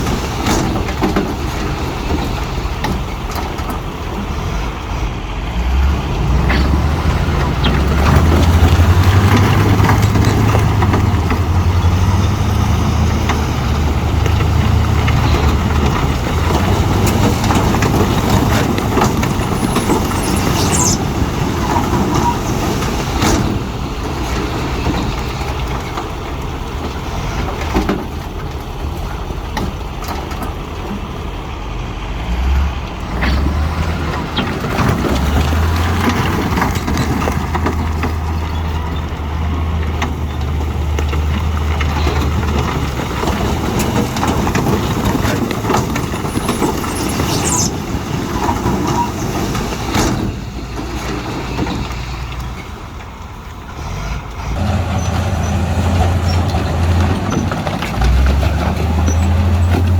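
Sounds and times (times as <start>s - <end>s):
diesel machinery engine droning: 0.0s - 59.9s.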